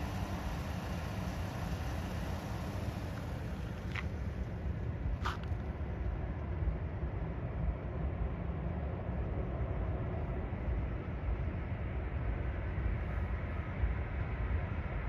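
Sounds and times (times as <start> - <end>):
low rumble of airport ambience: 0.0 - 15.0.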